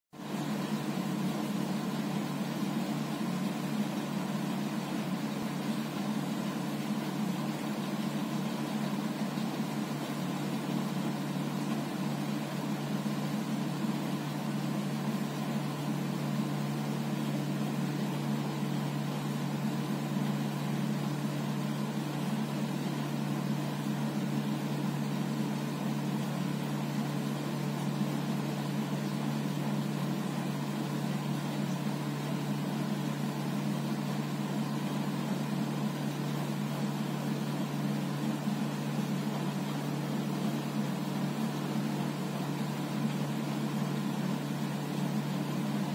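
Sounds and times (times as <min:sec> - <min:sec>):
low mechanical hum: 0:00.2 - 0:45.9.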